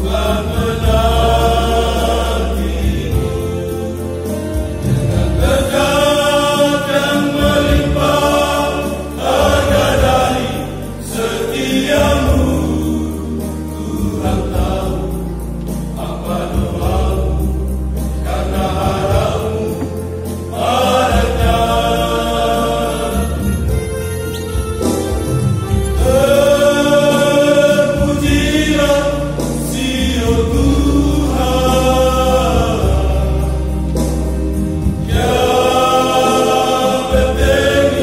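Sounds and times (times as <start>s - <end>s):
vocal group singing a hymn: 0.0s - 38.0s.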